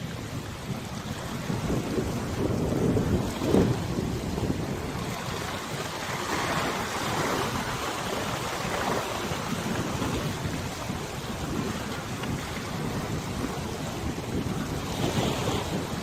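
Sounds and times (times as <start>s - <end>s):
river waves splashing: 0.0s - 16.0s
wind rumbling on microphone: 0.0s - 16.0s.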